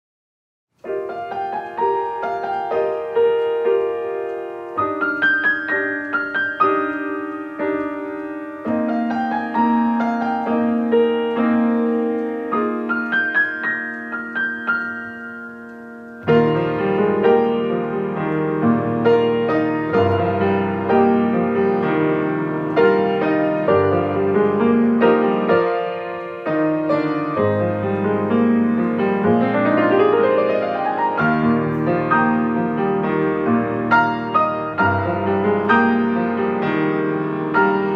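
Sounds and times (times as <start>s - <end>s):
piano chords and melody: 0.7s - 37.9s.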